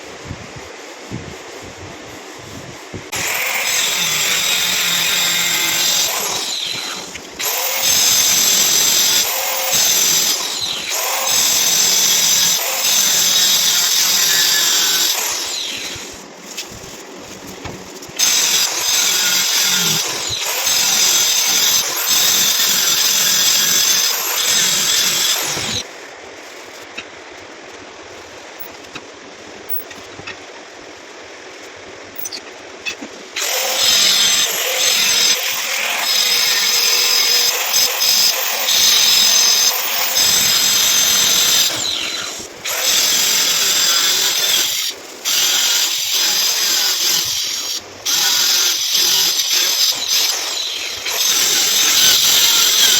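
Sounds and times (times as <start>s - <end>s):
power tool whining: 3.0s - 25.9s, 32.1s - 52.9s.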